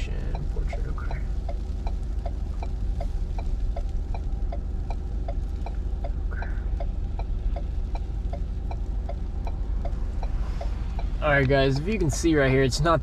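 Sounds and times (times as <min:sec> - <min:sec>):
car idling hum: 0:00.0 - 0:13.0
car indicator ticking: 0:00.0 - 0:13.0.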